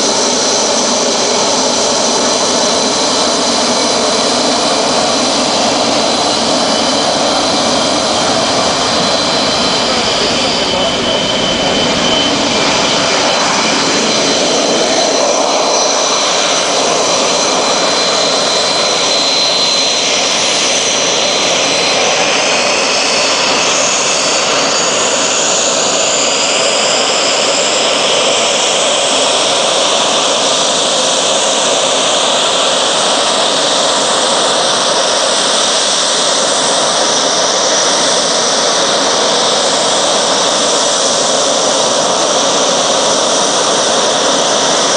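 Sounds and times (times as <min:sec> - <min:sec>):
high turbine whine: 0:00.0 - 0:44.9
jet engine roaring: 0:00.0 - 0:44.9.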